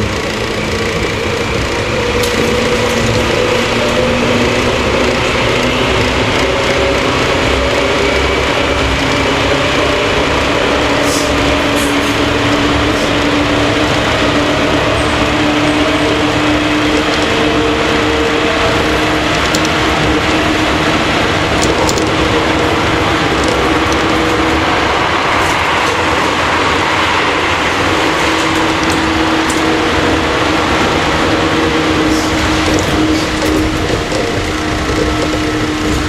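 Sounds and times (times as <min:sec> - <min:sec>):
traction motors whining: 0:00.0 - 0:36.0
wheel and rail running noise: 0:00.0 - 0:36.0.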